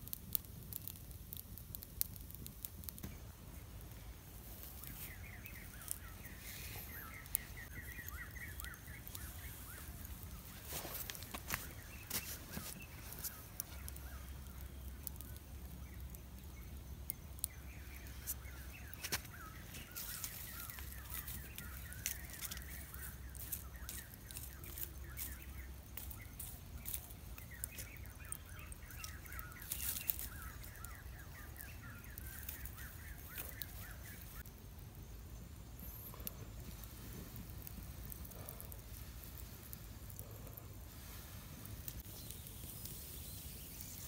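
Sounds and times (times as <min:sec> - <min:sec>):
sharp clicks and crackles: 0:00.0 - 0:03.3, 0:04.4 - 0:44.0
birds chirping: 0:02.0 - 0:44.0.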